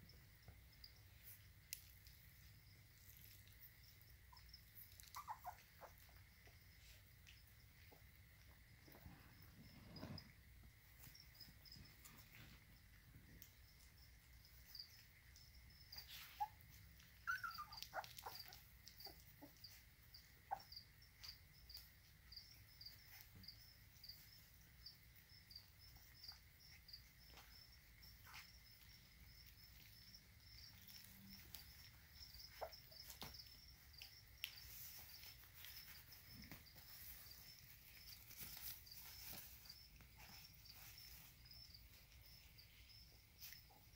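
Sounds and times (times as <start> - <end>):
crickets chirping: 0.0 - 43.9
puppies chewing and licking: 1.1 - 9.2, 11.0 - 23.4, 24.2 - 43.9.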